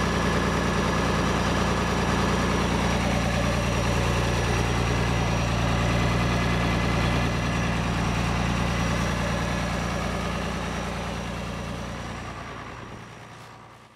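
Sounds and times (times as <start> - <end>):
tractor diesel engine idling: 0.0 - 13.9.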